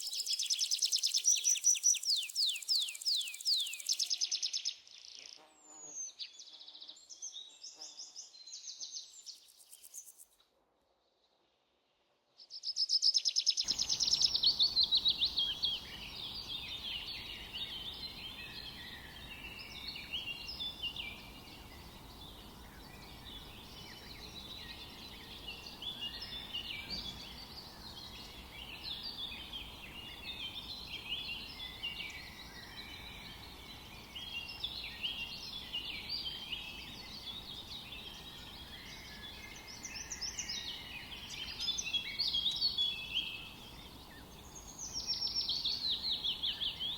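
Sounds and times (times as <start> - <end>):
small birds chirping and singing: 0.0 - 10.4, 12.4 - 46.9
faint low hiss: 0.0 - 11.0, 12.3 - 46.9.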